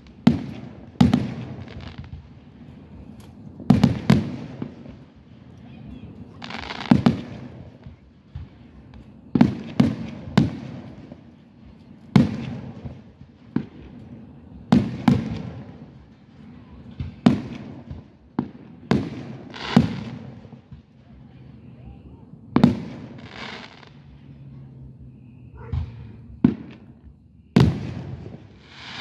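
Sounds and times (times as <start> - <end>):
firework booms: 0.0 - 11.3, 12.0 - 21.0, 22.0 - 24.0, 25.2 - 29.0
firework crackling: 0.0 - 24.4, 25.9 - 29.0.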